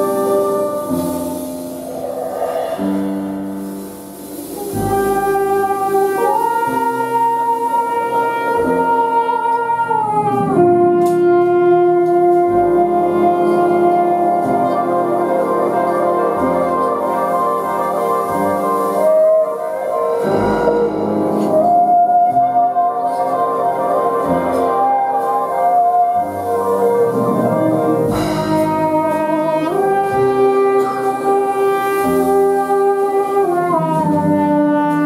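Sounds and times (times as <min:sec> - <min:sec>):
jazz ensemble playing chords: 0:00.0 - 0:35.0.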